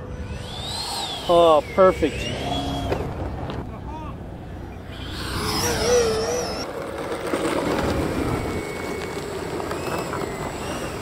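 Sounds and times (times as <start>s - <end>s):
model jet fan whining: 0.0s - 11.0s.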